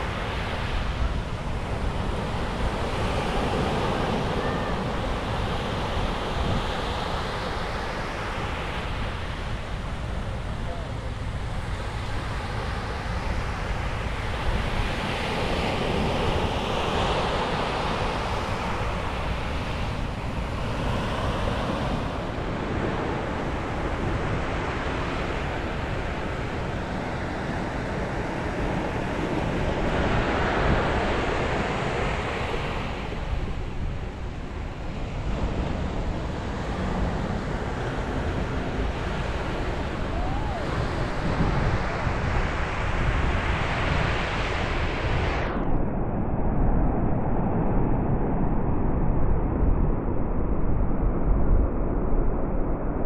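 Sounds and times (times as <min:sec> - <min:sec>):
sea waves breaking on beach: 0:00.0 - 0:45.3
wind buffeting microphone: 0:00.0 - 0:53.0.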